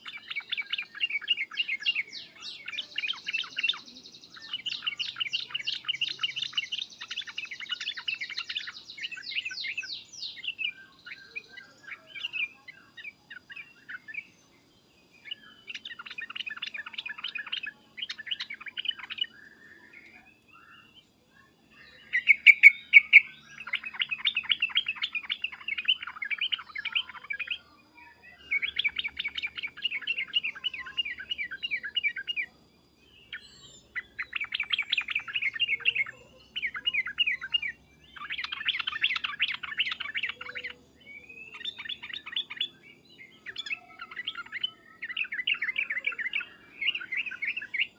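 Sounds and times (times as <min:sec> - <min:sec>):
bulbul chattering calls and song: 0:00.0 - 0:47.9.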